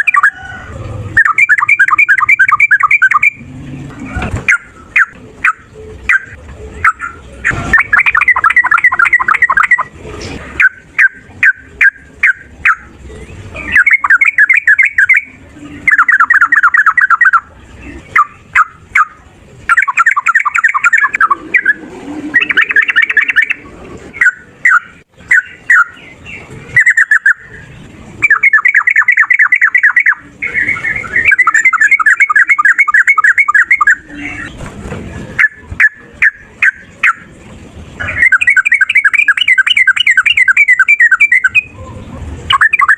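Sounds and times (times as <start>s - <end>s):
bird singing rapid rattling notes: 0.0s - 0.4s, 1.1s - 42.9s.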